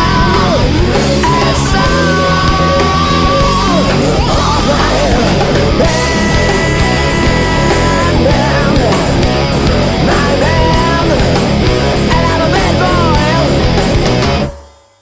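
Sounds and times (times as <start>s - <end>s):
bending lead guitar: 0.0s - 14.6s
hard rock band playing: 0.0s - 14.8s.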